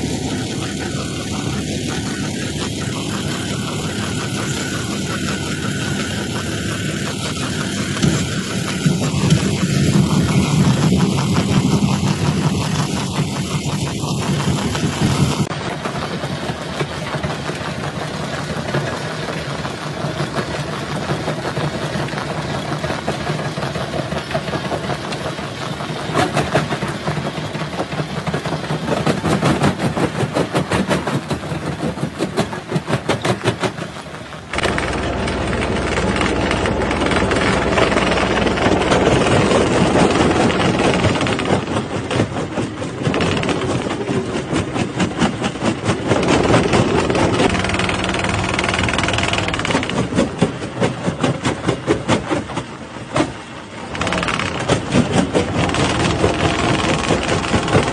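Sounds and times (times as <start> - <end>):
crusher machine rumbling: 0.0 - 57.9.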